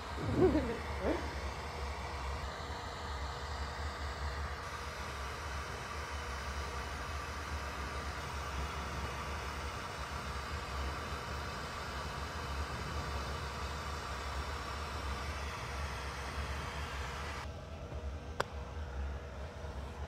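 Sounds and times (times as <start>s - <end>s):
torch flames hissing: 0.0s - 17.5s
low steady hum: 0.0s - 20.0s.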